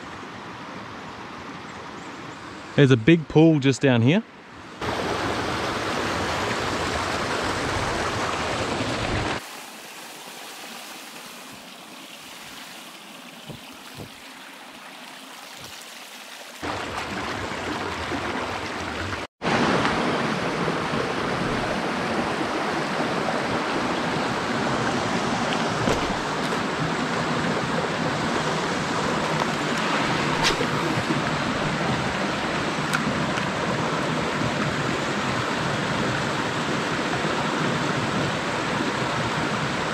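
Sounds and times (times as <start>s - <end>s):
creek water rushing over rocks: 4.6s - 39.9s.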